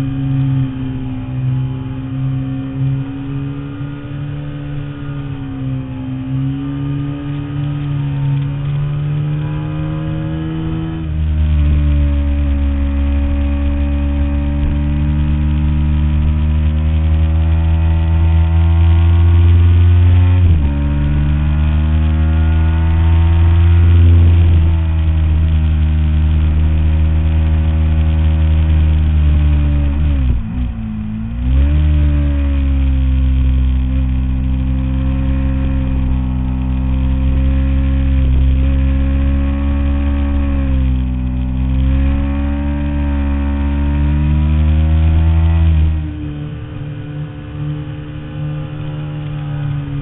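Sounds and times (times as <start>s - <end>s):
motorcycle engine revving hard: 1.6s - 50.0s.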